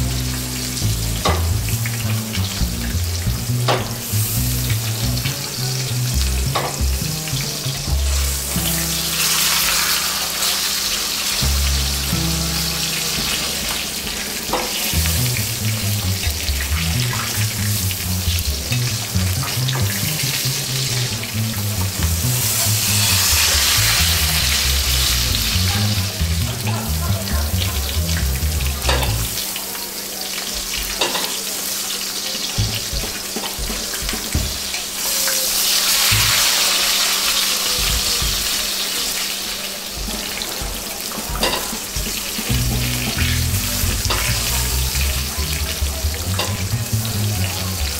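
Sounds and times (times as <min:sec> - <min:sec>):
steak sizzling in hot oil: 0:00.0 - 0:47.8.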